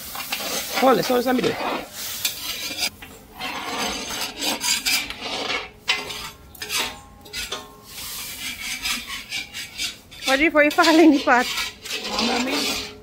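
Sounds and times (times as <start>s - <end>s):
spoon scraping pot bottom: 0.2s - 13.0s.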